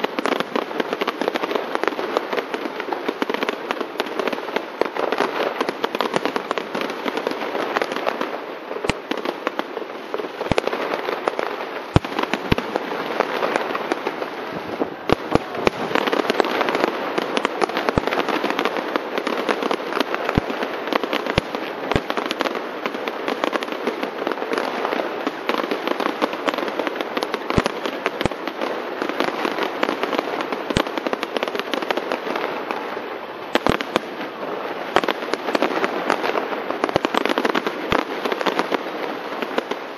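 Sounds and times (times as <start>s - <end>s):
sharp firework bangs: 0.0s - 32.8s, 33.5s - 39.8s
crackle of bursting fireworks: 0.0s - 39.9s.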